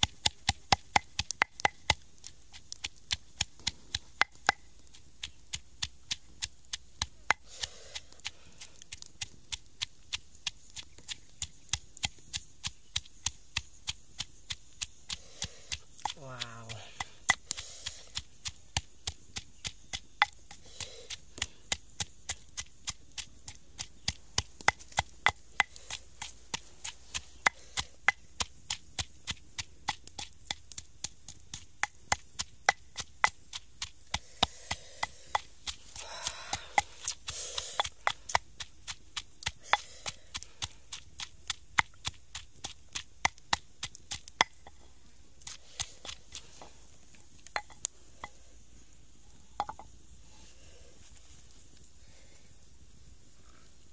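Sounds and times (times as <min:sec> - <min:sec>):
pestle pounding in mortar: 0:00.0 - 0:44.8.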